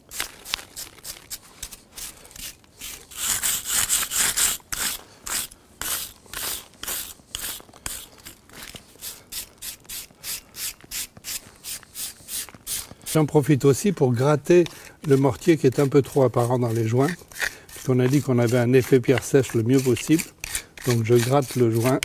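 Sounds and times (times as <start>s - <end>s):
wire brush scrubbing stone: 0.0s - 22.0s.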